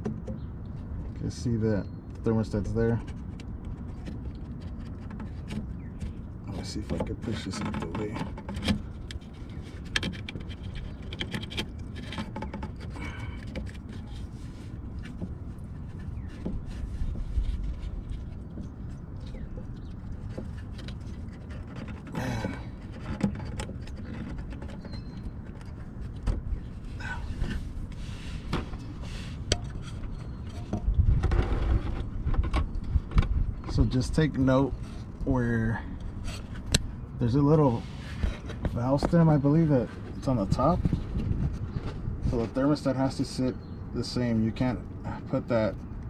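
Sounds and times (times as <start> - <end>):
low steady rumble: 0.0 - 46.0.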